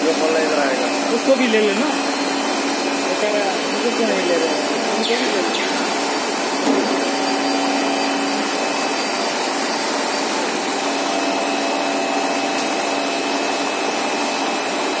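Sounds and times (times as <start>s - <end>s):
machine running: 0.0s - 15.0s.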